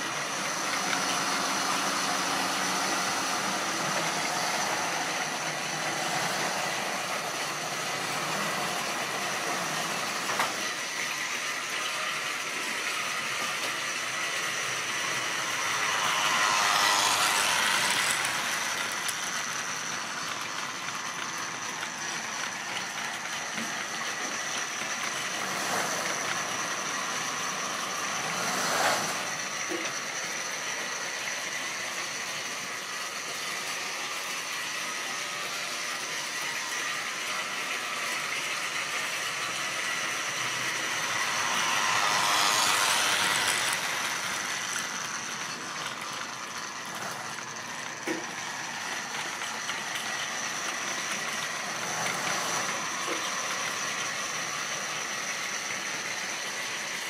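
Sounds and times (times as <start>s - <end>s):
model train rattling on rails: 0.0s - 57.0s.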